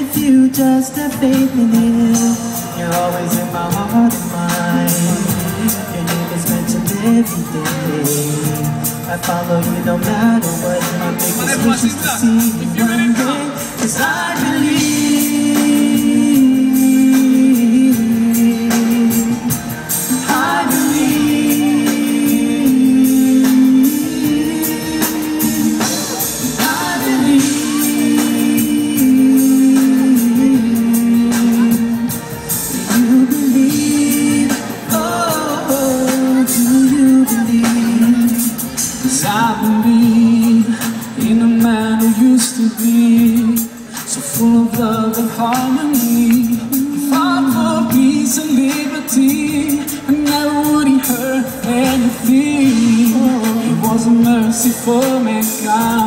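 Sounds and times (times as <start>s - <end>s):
drums and percussion: 0.0s - 56.0s.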